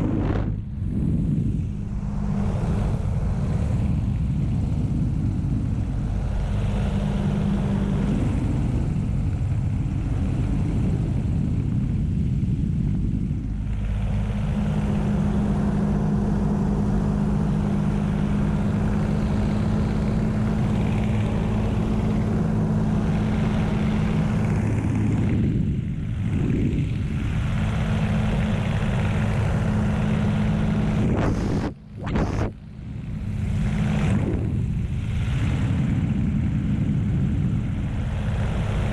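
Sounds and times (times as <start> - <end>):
airflow noise: 0.0 - 38.9
propeller plane engine droning: 0.0 - 38.9.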